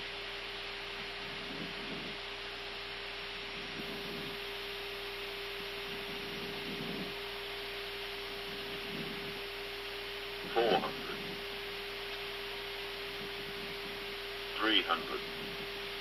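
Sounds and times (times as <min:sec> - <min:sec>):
steady hum: 0:00.0 - 0:16.0
airflow hiss: 0:00.6 - 0:16.0.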